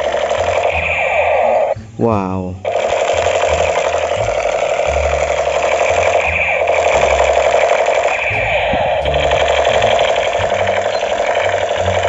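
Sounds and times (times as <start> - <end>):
toy gun rapid buzzing rattle: 0.0 - 1.8, 2.6 - 12.0
short low electronic tones: 0.0 - 12.0.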